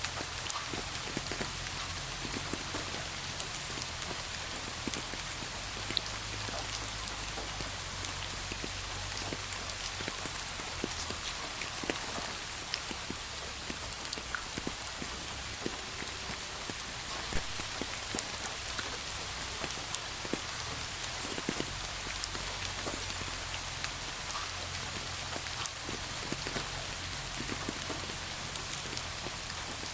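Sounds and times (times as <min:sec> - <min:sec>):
raindrops ticking on a surface: 0:00.0 - 0:29.9
steady rain hiss: 0:00.0 - 0:29.9.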